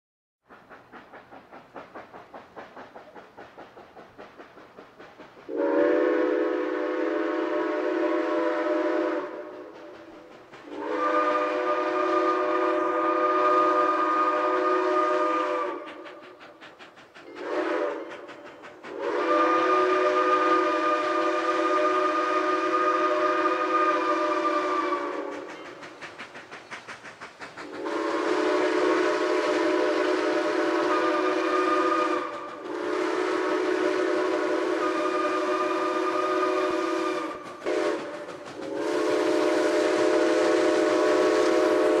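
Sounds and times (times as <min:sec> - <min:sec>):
steam locomotive exhaust beats: 0:00.4 - 0:42.0
steam whistle blowing: 0:05.5 - 0:16.4, 0:17.2 - 0:25.8, 0:27.6 - 0:42.0.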